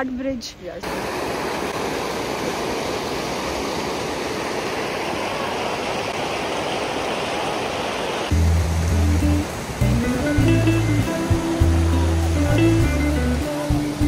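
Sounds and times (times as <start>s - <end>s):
water rushing over a weir: 0.8s - 14.0s.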